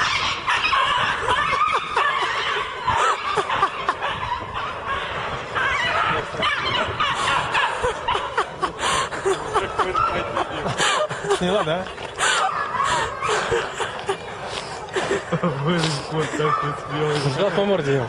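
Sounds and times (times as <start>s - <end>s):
people laughing and giggling: 0.0s - 18.0s.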